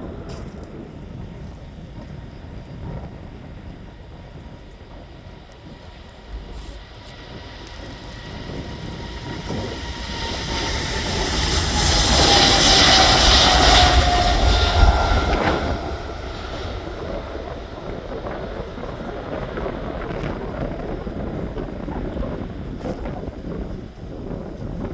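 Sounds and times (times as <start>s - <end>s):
jet airliner taking off: 0.0s - 24.9s.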